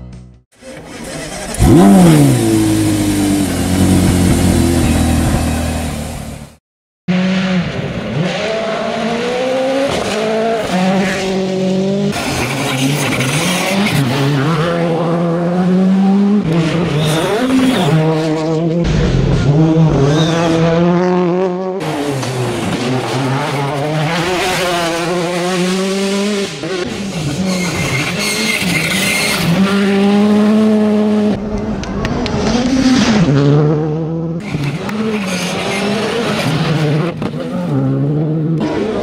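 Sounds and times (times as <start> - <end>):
rally car engines revving: 0.6 - 39.0.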